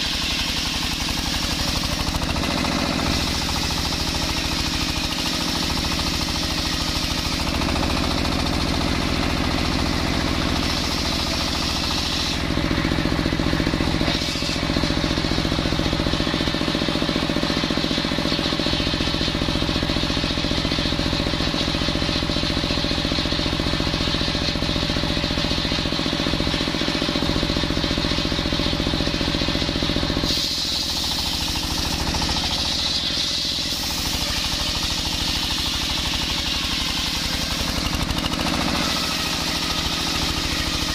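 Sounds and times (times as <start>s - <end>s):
saw blade cutting log: 0.0s - 40.9s
sawmill engine drone: 0.0s - 40.9s.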